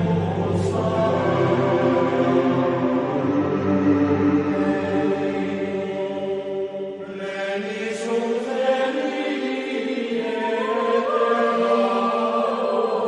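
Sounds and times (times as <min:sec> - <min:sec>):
chanted mantra in long held notes: 0:00.0 - 0:13.0.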